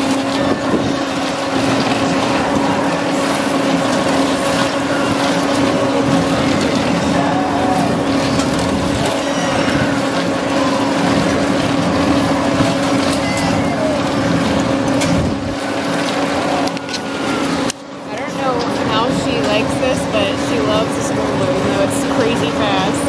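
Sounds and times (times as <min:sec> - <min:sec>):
mechanical rumble: 0:00.0 - 0:23.0
ride motor hum: 0:00.0 - 0:23.0.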